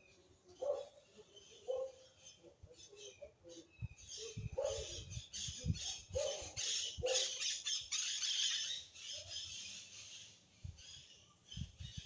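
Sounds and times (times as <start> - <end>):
high-pitched bird chatter: 0.5 - 12.0.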